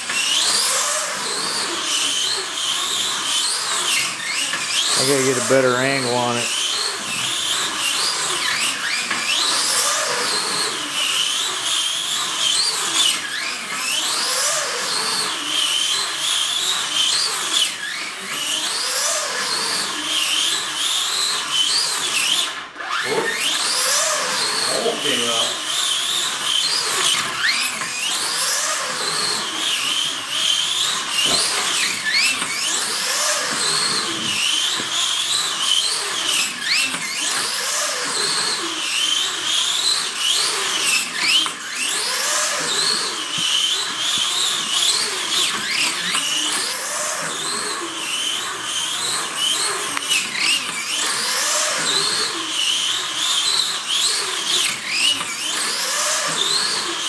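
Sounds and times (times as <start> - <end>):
slot car motor whining: 0.0 - 57.0.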